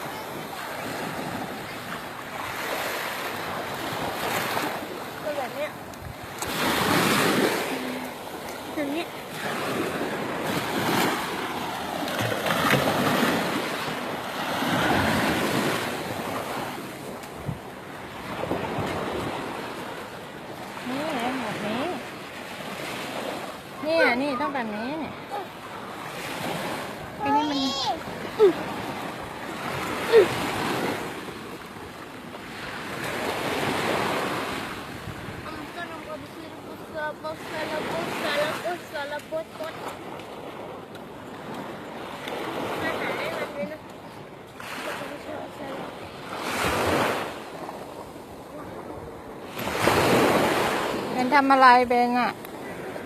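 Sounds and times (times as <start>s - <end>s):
waves breaking on beach: 0.0s - 53.0s.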